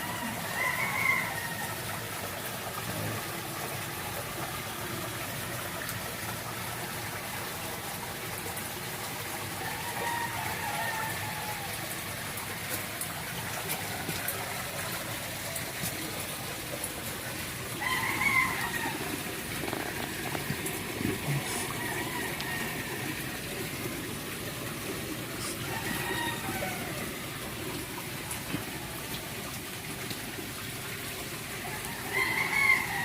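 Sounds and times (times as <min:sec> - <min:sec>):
running water rushing: 0:00.0 - 0:33.0.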